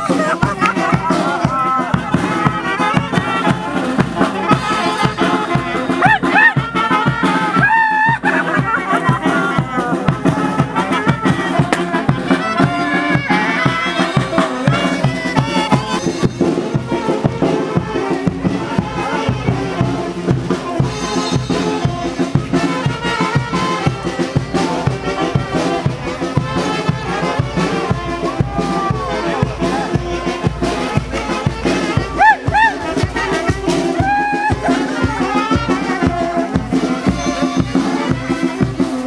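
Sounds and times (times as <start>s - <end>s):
brass melody: 0.0s - 39.0s
steady drum beat: 0.0s - 39.0s.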